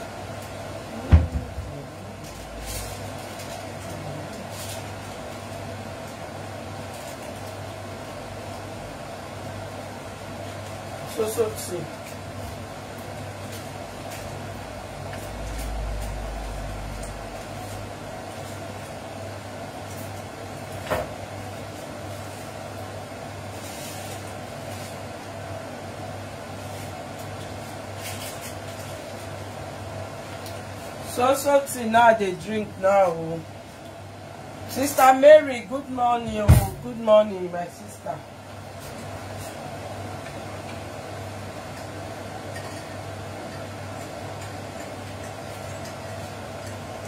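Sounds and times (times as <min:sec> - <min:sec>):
extractor fan humming: 0:00.0 - 0:47.0.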